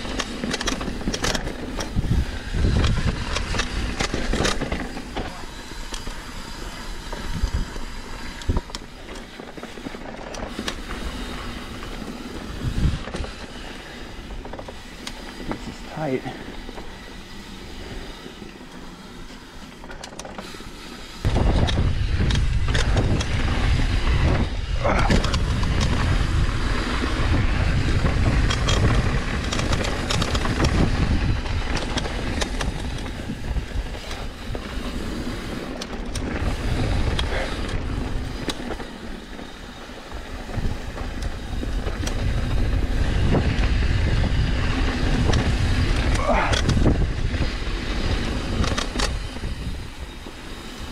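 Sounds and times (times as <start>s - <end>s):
wind buffeting microphone: 0.0s - 18.4s, 21.2s - 50.9s
bike clicking and rattling: 0.0s - 50.9s
tyres running over dirt: 0.0s - 50.9s.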